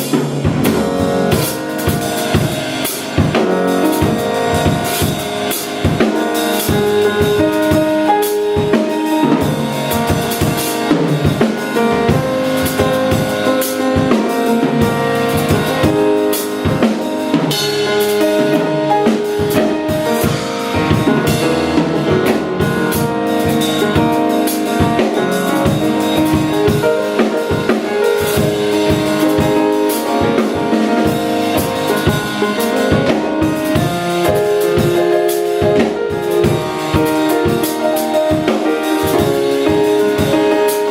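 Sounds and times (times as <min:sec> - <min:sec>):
drum kit steady beat: 0:00.0 - 0:40.9
held melody and chord notes: 0:00.0 - 0:40.9.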